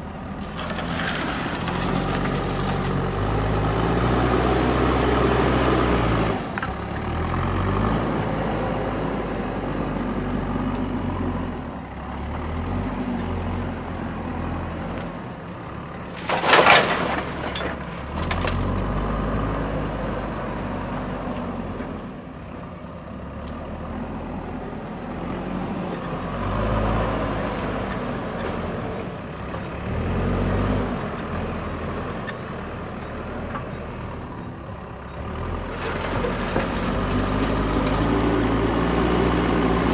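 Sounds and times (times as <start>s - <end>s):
diesel engine revving: 0.0s - 21.8s, 25.0s - 34.2s, 34.8s - 39.9s.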